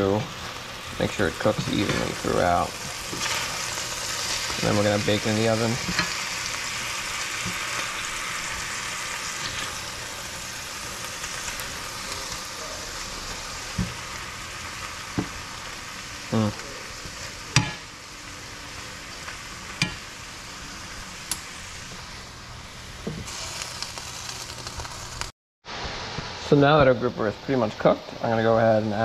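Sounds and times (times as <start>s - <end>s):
fish sizzling in a skillet: 0.0s - 26.4s.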